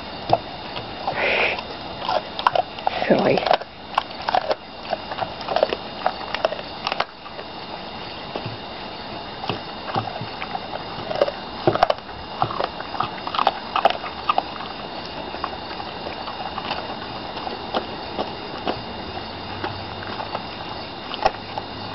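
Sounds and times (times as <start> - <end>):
dog chewing bone: 0.0 - 21.9.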